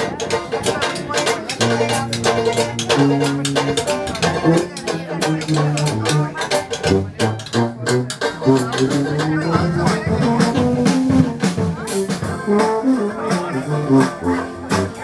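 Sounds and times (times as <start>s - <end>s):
jazz band playing: 0.0s - 15.0s
bass line: 1.6s - 15.0s.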